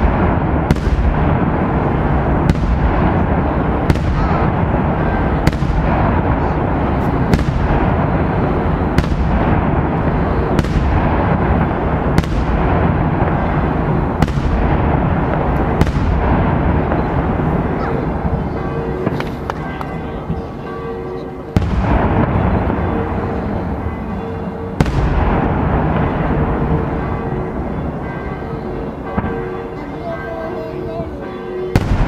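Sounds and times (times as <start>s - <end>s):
rumble of continuous firing: 0.0s - 20.4s, 21.1s - 29.9s, 31.7s - 32.0s.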